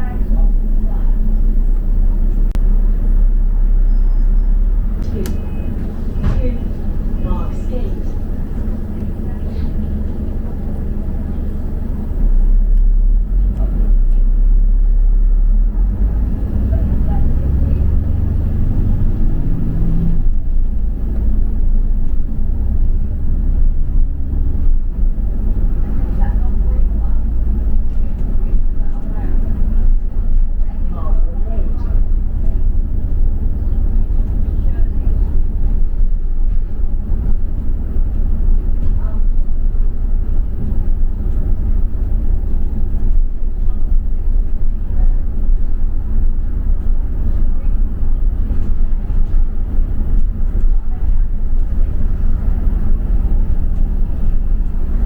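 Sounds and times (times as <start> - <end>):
bus engine and tyres rumbling: 0.0 - 55.0.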